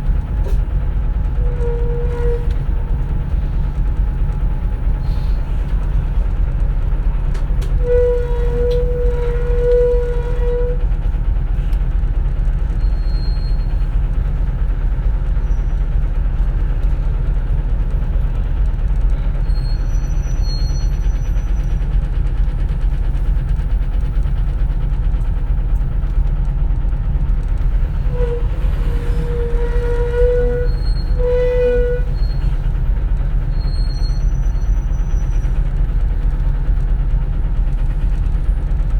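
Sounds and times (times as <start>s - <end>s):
bus engine rumble: 0.0s - 38.9s.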